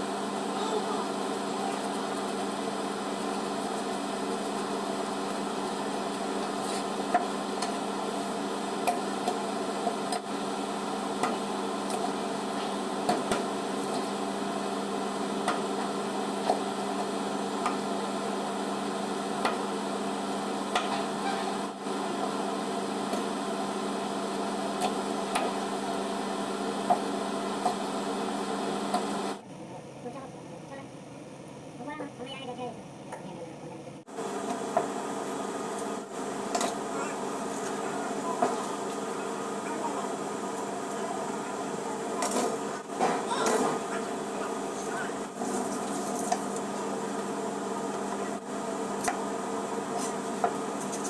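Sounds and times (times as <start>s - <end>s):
machine hum: 0.0s - 29.4s, 34.0s - 51.0s.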